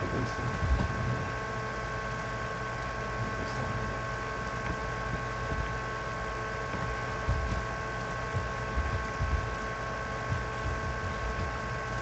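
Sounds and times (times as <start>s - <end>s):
soft low thumps: 0.0s - 1.4s, 3.2s - 12.0s
background hum and hiss: 0.0s - 12.0s.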